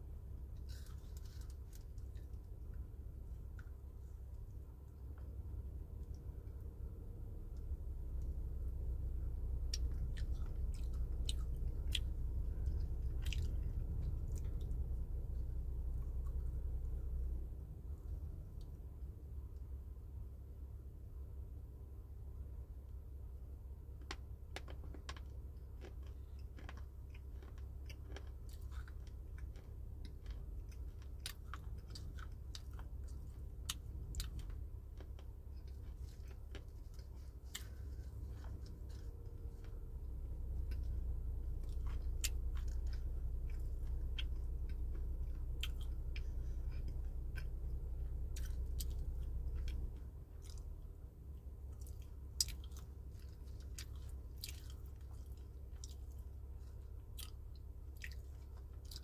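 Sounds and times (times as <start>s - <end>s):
low steady hum: 0.0s - 59.0s
crunchy chewing: 0.5s - 5.4s, 7.5s - 17.4s, 24.0s - 59.0s.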